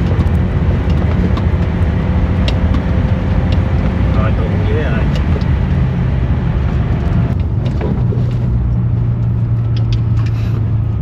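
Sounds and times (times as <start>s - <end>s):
truck engine droning uphill: 0.0s - 11.0s.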